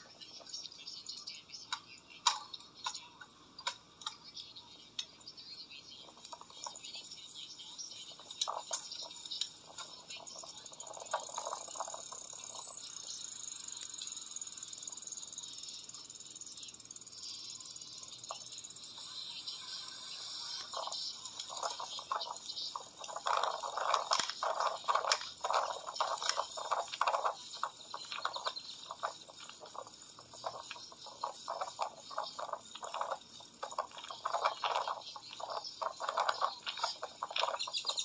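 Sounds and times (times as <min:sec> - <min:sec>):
bicycle rattling on pavement: 0:05.5 - 0:38.0.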